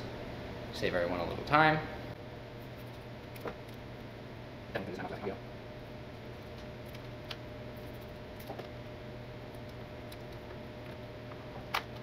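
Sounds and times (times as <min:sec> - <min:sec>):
room hum with faint whine: 0:00.0 - 0:12.0.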